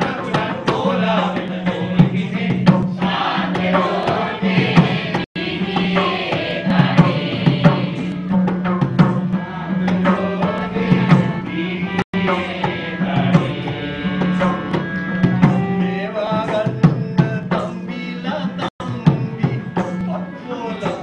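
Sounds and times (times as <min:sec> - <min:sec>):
hand drums fast rhythm: 0:00.0 - 0:21.0.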